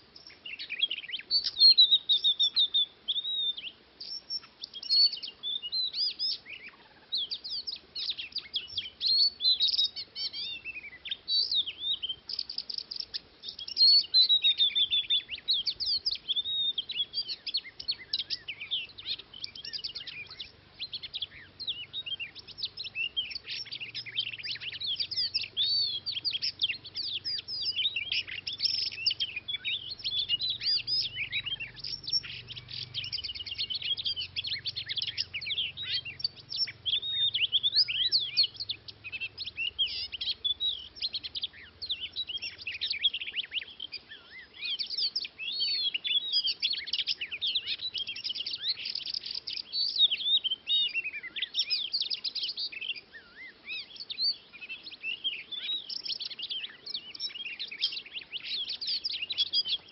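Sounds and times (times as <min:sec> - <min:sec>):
songbird whistles and trills: 0:00.0 - 0:59.9.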